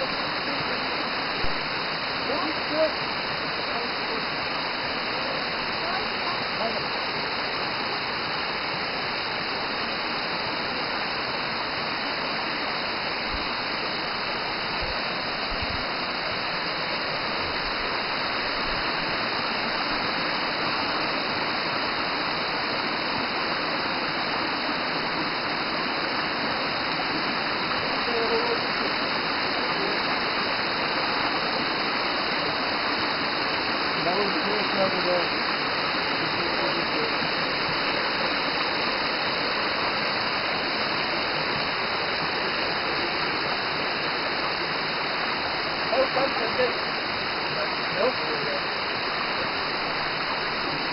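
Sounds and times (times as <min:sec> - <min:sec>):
waterfall rushing and splashing: 0:00.0 - 0:50.9.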